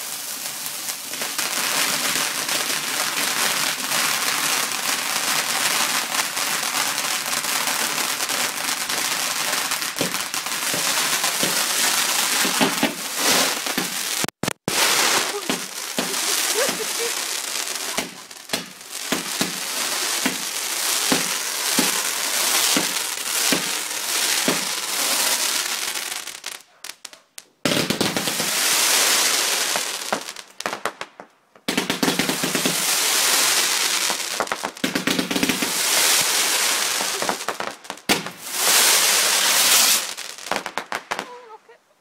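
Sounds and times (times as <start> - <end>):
fireworks crackling and popping: 0.0 - 41.8.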